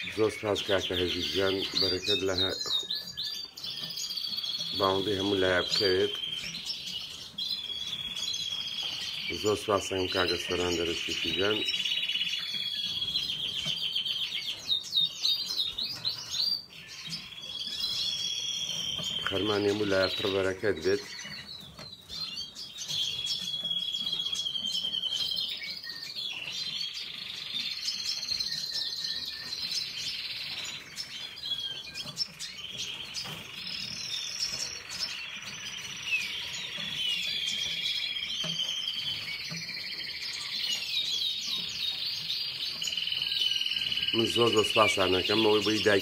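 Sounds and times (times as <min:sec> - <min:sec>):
canary singing trills: 0:00.0 - 0:46.0.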